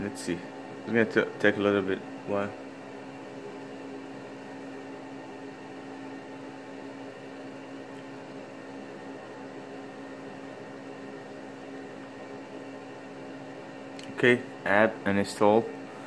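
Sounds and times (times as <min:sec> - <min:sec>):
low hum with faint hiss: 0:00.0 - 0:16.0.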